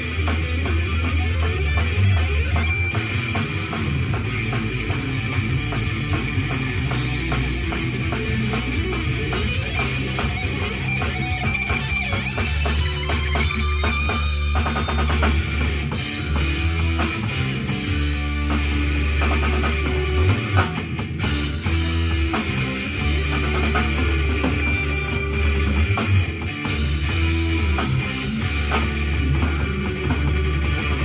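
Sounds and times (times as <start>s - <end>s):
distorted electric guitar: 0.0s - 31.0s
drum kit beat: 0.0s - 31.0s.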